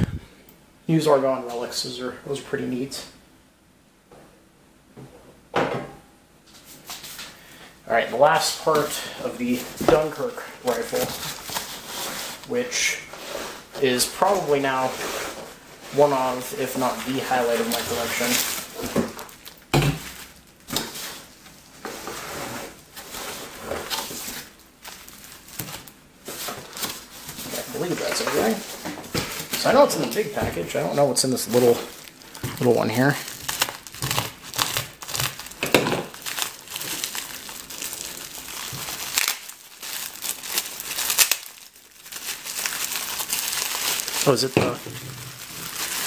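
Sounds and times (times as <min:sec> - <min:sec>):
plastic wrap crinkling: 0:08.2 - 0:46.0.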